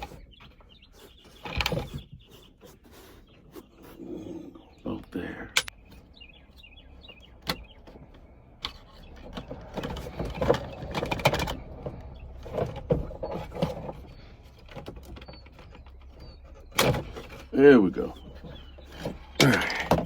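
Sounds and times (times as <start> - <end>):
tractor console parts clicking: 0.0 - 4.0, 5.0 - 20.0.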